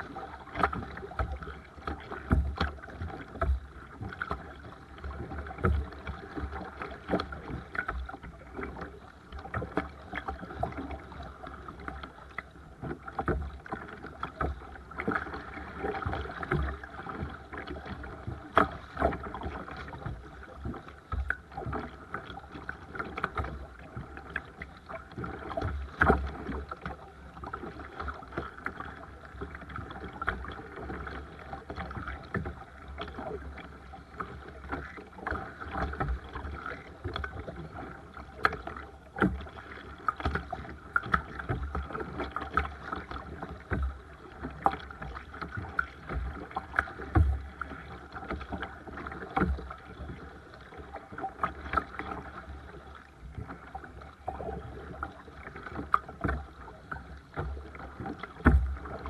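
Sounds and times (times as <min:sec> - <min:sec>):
paddle splashes: 0:00.0 - 0:59.0
water lapping against kayak hull: 0:00.0 - 0:59.0.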